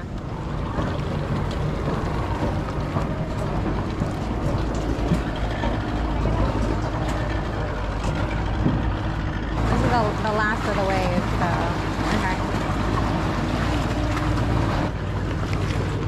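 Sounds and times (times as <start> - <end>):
boat motor running: 0.0 - 16.0
water noise: 0.0 - 16.0
wind: 0.0 - 16.0.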